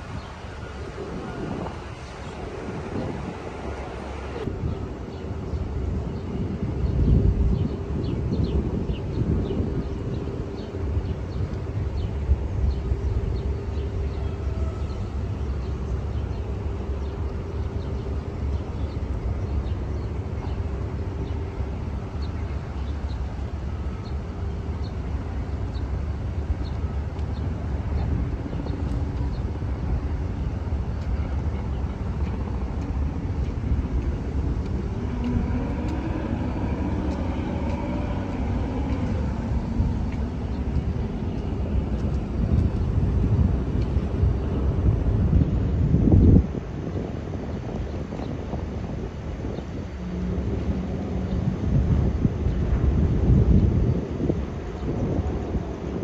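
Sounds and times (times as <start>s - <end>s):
city traffic rumble: 0.0s - 56.0s
wind on microphone: 0.0s - 56.0s.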